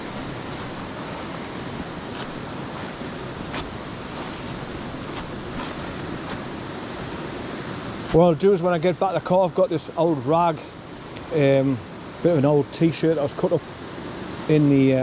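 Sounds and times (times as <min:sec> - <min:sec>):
fast-flowing stream rushing: 0:00.0 - 0:15.0.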